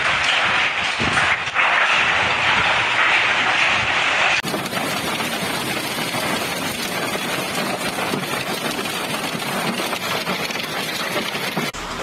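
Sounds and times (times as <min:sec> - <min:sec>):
heavy rain on pavement and rooftops: 0:00.0 - 0:11.8.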